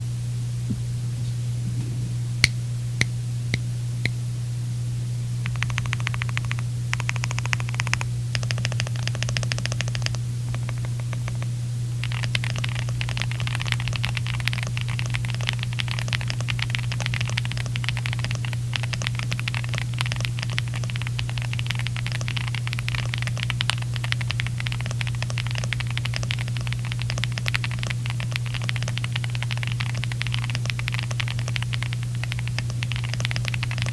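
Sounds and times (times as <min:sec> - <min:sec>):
steady low hum: 0:00.0 - 0:33.9
mechanical keyboard typing: 0:05.5 - 0:33.9.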